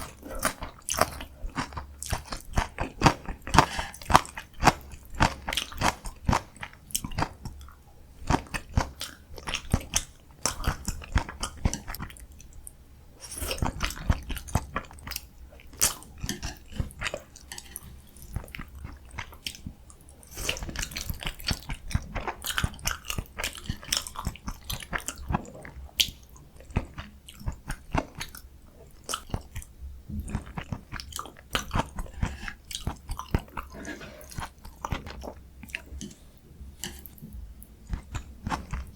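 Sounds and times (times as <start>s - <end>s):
person chewing crunchy food: 0.0s - 12.2s, 13.2s - 38.9s.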